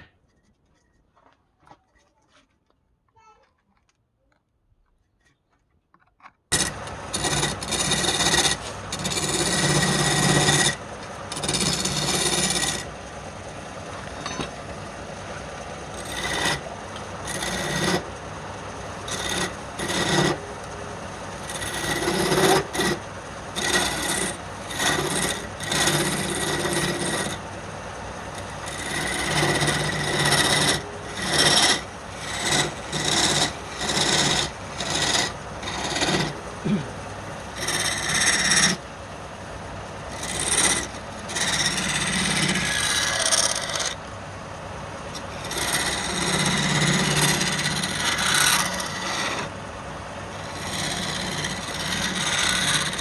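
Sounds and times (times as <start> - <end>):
tool rasping against wood: 6.5 - 14.7, 15.3 - 38.8, 40.1 - 44.0, 45.1 - 49.6, 50.3 - 53.0
lathe motor hum: 6.5 - 53.0.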